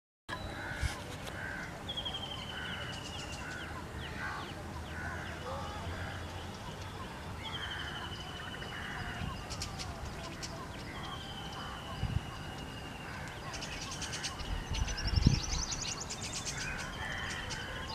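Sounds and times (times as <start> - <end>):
bird honking call: 0.4 - 15.2, 16.5 - 17.9.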